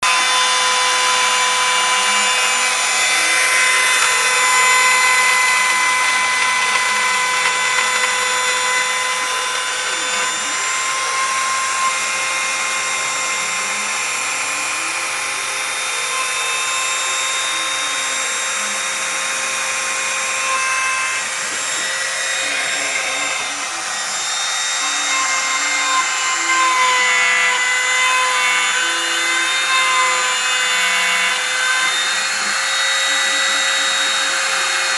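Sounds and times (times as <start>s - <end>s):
router spindle whining: 0.0s - 34.9s
stepper motors low tones: 0.1s - 34.9s.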